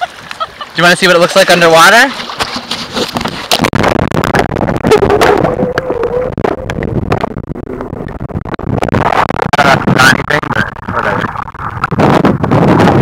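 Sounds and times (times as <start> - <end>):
muffled water sloshing underwater: 0.0 - 13.0.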